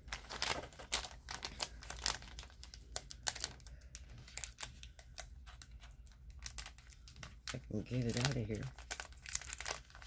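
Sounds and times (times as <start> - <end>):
plastic wrapper crinkling: 0.0 - 10.0.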